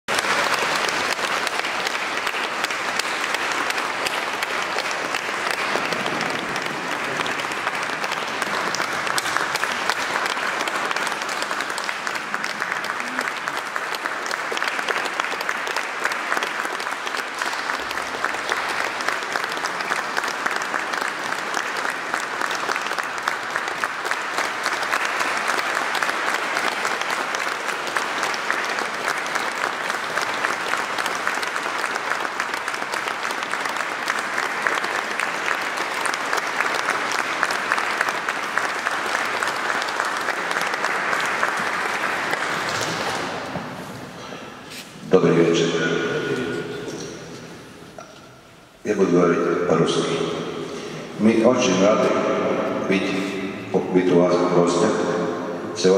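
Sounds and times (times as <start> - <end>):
audience applauding: 0.1 - 48.2.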